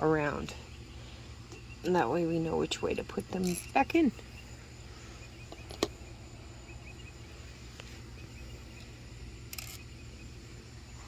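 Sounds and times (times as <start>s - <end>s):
faint cricket chirps: 0.0s - 11.0s
low hum: 0.0s - 11.0s.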